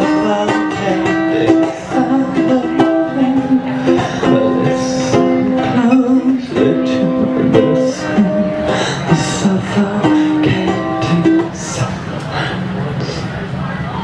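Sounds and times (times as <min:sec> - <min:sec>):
ukulele strumming: 0:00.0 - 0:11.7
person singing: 0:00.0 - 0:11.9.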